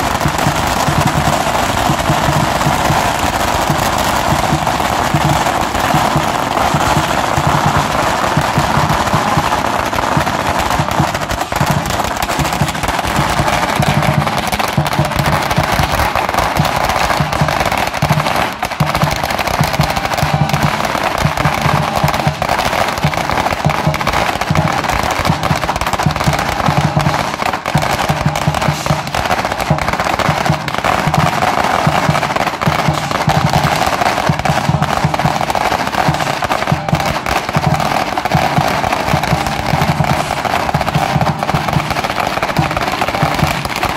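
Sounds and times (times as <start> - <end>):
cymbals clashing: 0.0 - 43.9
firecrackers crackling: 0.0 - 43.9
large drum beating: 0.0 - 43.9.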